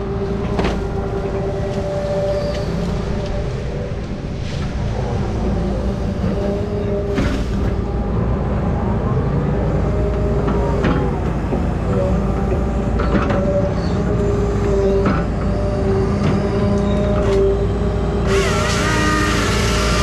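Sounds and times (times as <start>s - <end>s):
hydraulic whine: 0.0s - 4.7s, 5.3s - 8.3s, 10.1s - 20.0s
heavy machinery engine rumble: 0.0s - 20.0s.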